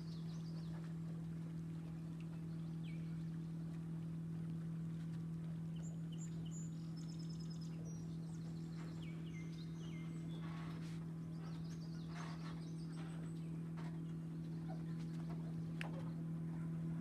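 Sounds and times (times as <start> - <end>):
songbirds chirping: 0.0 - 17.0
steady low hum: 0.0 - 17.0.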